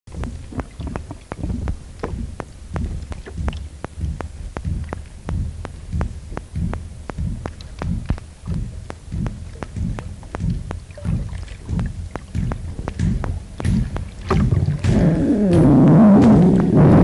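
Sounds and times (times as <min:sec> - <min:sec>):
whale low thumps underwater: 0:00.1 - 0:17.0.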